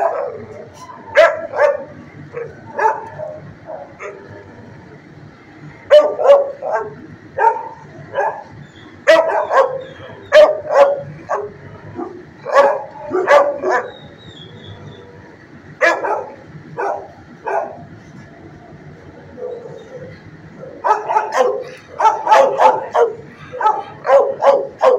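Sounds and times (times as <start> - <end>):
dog barking: 0.0 - 4.3, 5.9 - 14.0, 15.8 - 17.9, 19.4 - 24.9.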